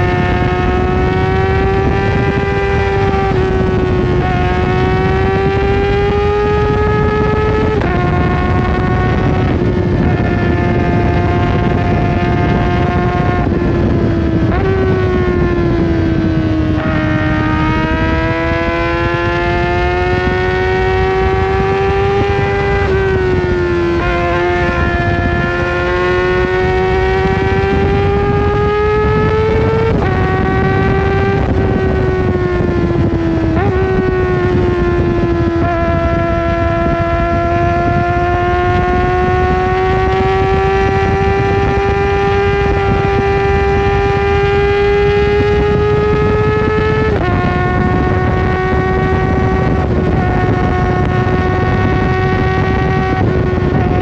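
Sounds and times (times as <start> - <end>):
motorcycle engine revving high: 0.0 - 54.0
wind noise: 0.0 - 54.0.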